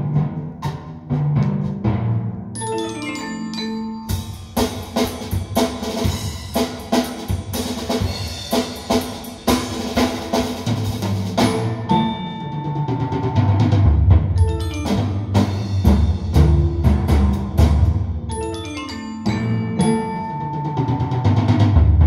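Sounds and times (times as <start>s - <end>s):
percussion-led music from a record: 2.6s - 22.0s.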